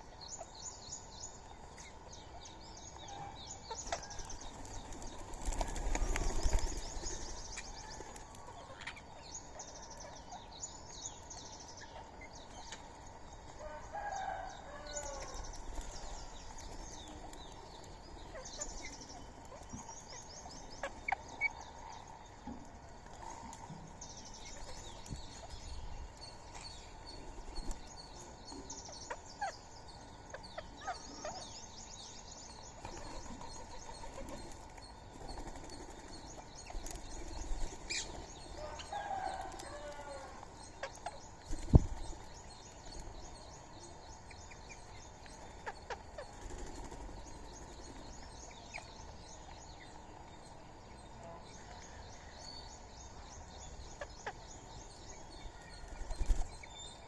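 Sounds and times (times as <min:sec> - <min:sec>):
birds chirping trills: 0:00.0 - 0:57.0.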